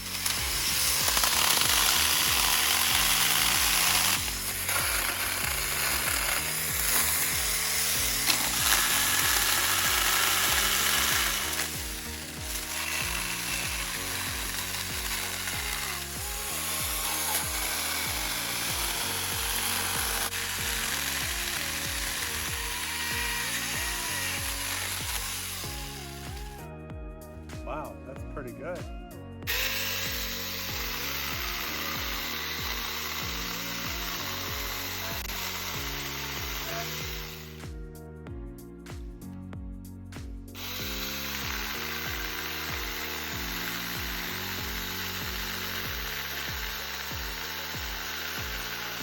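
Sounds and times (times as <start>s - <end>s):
mini chainsaw cutting branches: 0.0s - 26.7s, 29.4s - 37.8s, 40.5s - 49.0s
background music: 0.0s - 49.0s.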